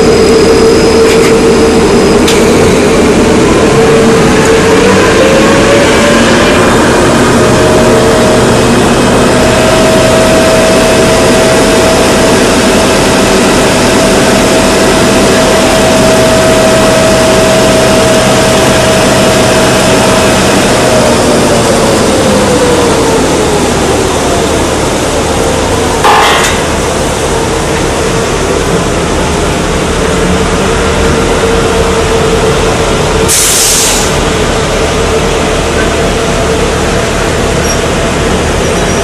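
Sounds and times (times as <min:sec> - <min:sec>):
drilling rig machinery: 0:00.0 - 0:39.0.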